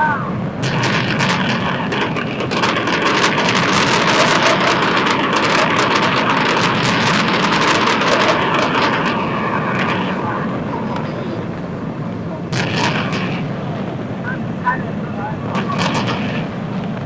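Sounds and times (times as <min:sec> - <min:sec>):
fireworks crackling: 0:00.4 - 0:17.0.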